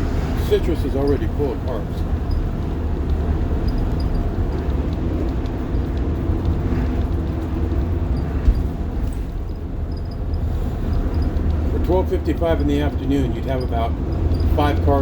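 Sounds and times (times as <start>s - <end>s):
cabin and road noise: 0.0s - 15.0s
diesel bus engine rumble: 0.0s - 15.0s.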